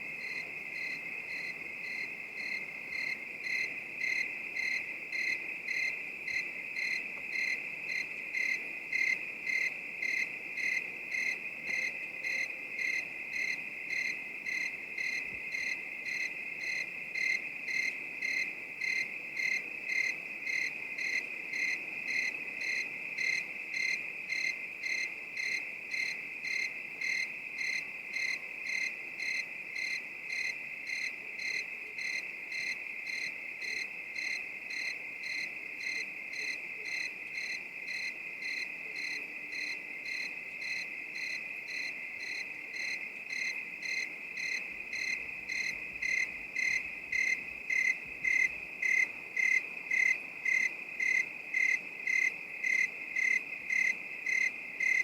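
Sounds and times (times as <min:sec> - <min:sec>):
cricket chirps: 0:00.0 - 0:55.0
crickets trilling: 0:00.1 - 0:55.0.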